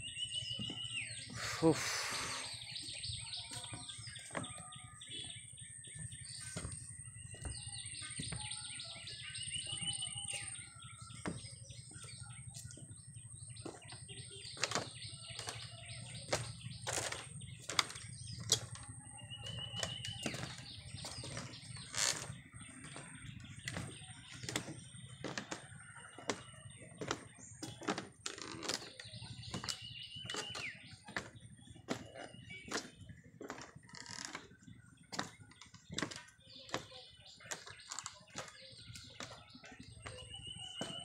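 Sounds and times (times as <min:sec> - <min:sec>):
birds chirping and trilling: 0:00.0 - 0:41.0.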